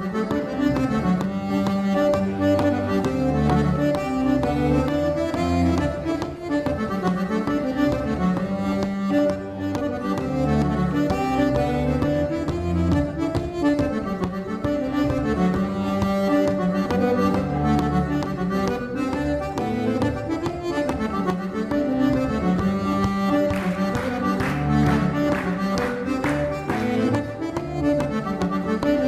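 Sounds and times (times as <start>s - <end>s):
button accordion melody: 0.0s - 29.0s.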